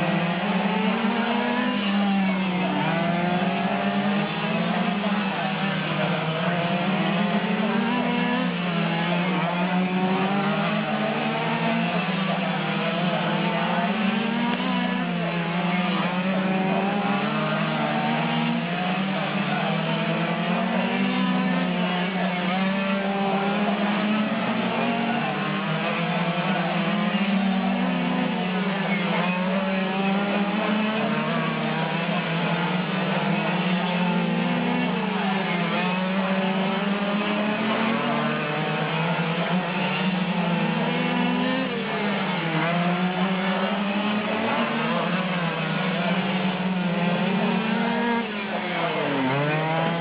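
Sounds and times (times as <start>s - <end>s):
small two-stroke engines buzzing: 0.0s - 50.0s.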